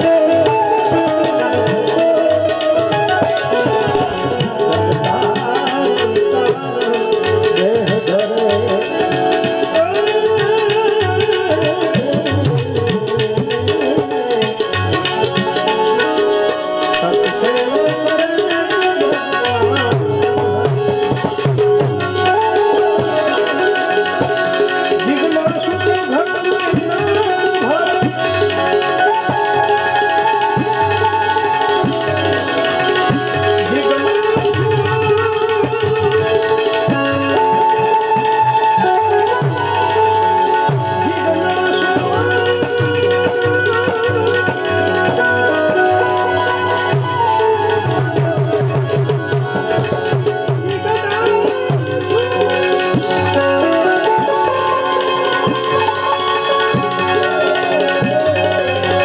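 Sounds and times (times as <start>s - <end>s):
harmonium melody: 0.0s - 59.0s
tablas playing: 0.0s - 59.0s.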